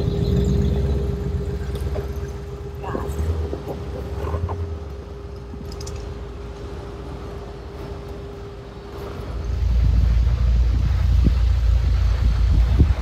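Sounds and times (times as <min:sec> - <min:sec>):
off-road vehicle engine rumbling: 0:00.0 - 0:13.0
steady whine: 0:00.0 - 0:13.0.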